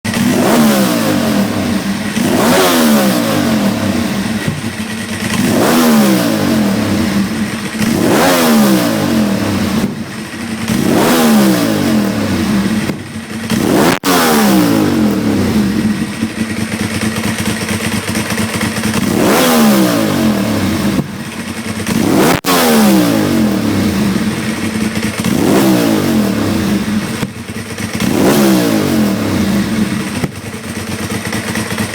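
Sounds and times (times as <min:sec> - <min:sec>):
motorcycle engine revving: 0:00.0 - 0:31.9
exhaust cracks: 0:00.1 - 0:30.8.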